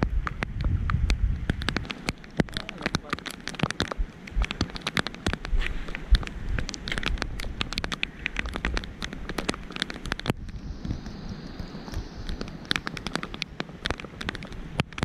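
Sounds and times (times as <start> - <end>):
raindrops ticking close by: 0.0 - 15.0
steady hiss of rain: 0.0 - 15.0.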